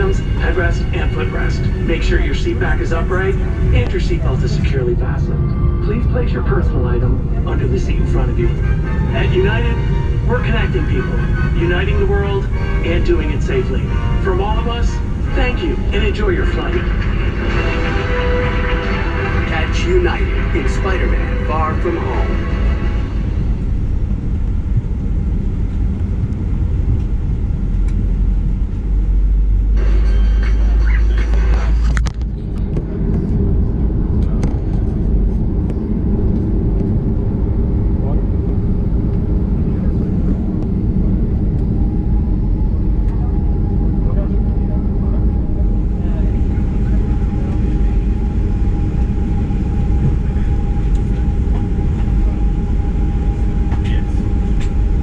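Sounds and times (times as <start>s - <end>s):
aircraft cabin low rumble: 0.0s - 55.0s.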